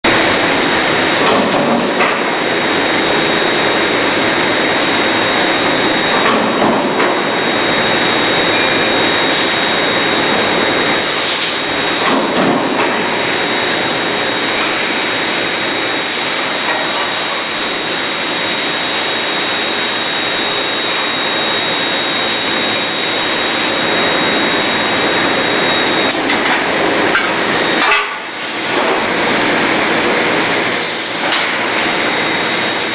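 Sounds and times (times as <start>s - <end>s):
furnace roaring: 0.0s - 32.9s
high-pitched whine: 0.1s - 32.9s.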